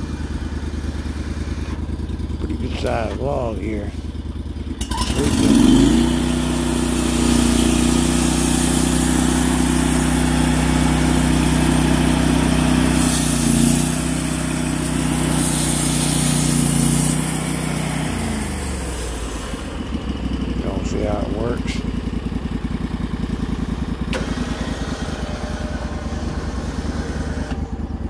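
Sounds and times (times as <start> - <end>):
petrol engine revving: 0.0 - 28.0.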